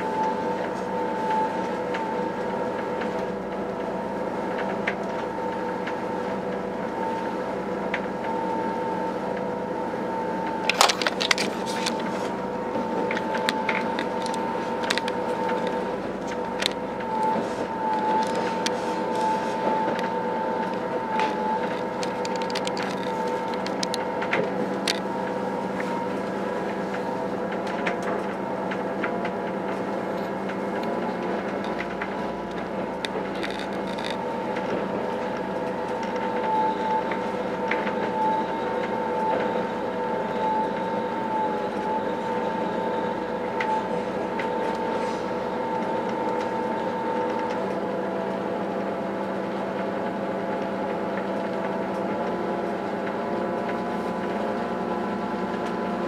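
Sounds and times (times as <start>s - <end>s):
train running noise on board: 0.0s - 56.0s
wavering whine: 0.0s - 56.0s.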